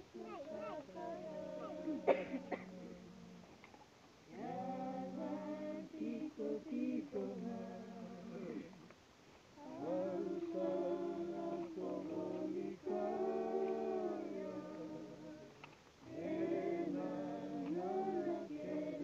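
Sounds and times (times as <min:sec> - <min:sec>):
women singing unaccompanied: 0:00.0 - 0:03.5, 0:04.3 - 0:08.8, 0:09.6 - 0:19.0.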